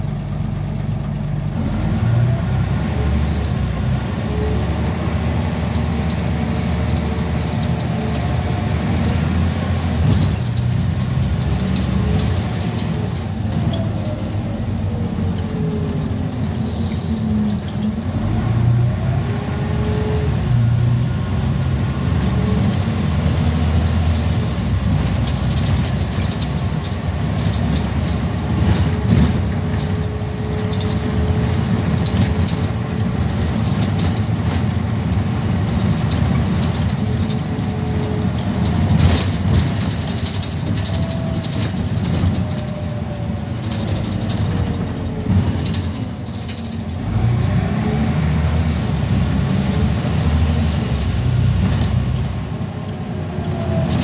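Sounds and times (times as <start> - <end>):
bus body rattling: 0.0 - 54.0
bus diesel engine running: 0.0 - 54.0.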